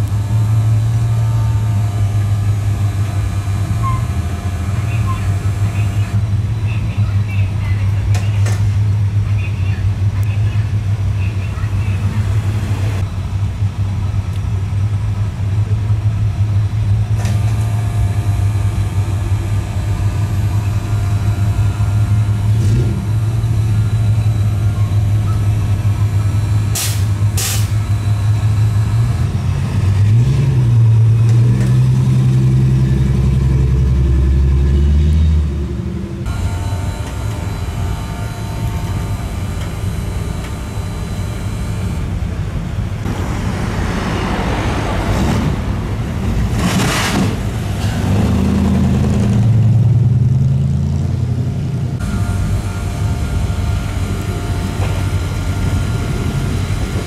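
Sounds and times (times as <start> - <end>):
truck engine idling and revving: 0.0 - 57.0.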